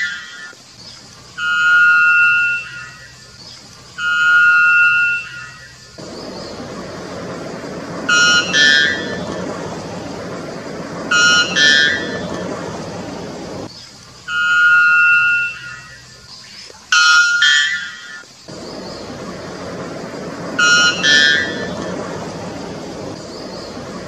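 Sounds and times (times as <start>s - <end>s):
bird calling: 0.0s - 24.0s
steady background hiss: 0.0s - 24.0s.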